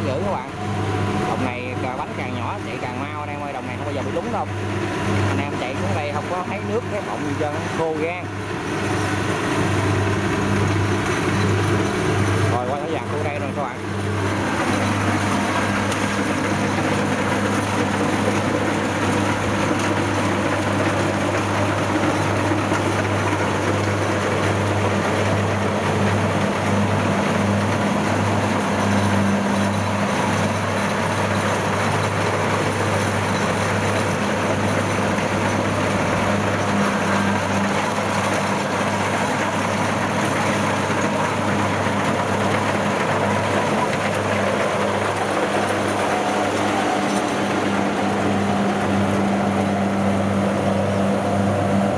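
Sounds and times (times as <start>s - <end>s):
diesel engine low drone: 0.0s - 51.9s.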